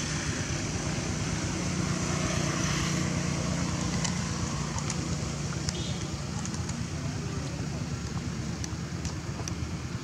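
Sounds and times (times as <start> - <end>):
outdoor background hiss: 0.0 - 10.0
vehicle engine hum: 0.0 - 10.0.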